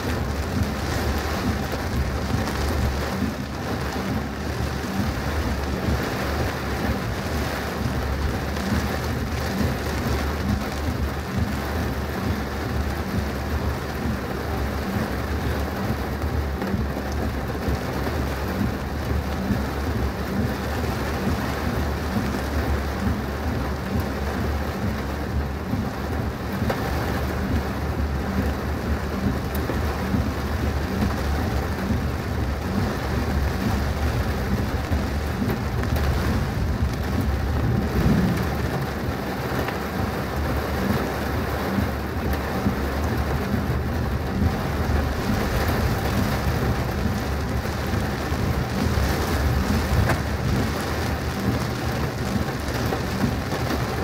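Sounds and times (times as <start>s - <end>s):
heavy rain on a car: 0.0s - 54.0s
low rumble: 0.0s - 54.0s.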